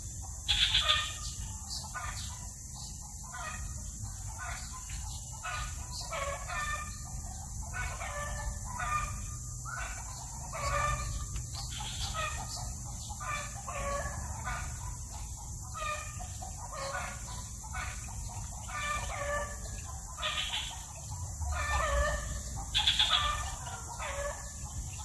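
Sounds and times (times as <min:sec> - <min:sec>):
bird harsh calls: 0:00.0 - 0:25.0.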